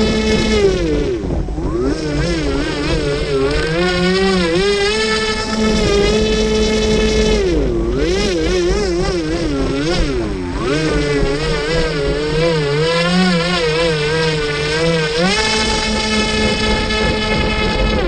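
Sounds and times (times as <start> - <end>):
electric motor and propeller whine: 0.0 - 18.0.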